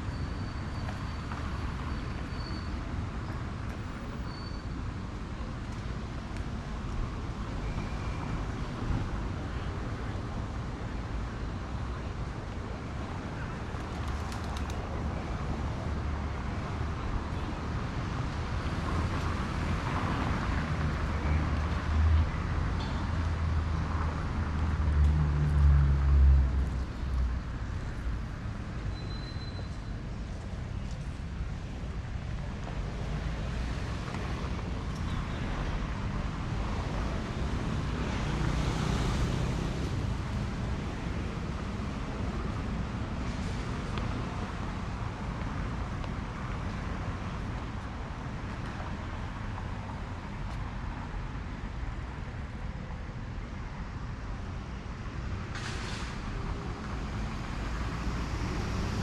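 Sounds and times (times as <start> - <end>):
street traffic: 0.0 - 59.0.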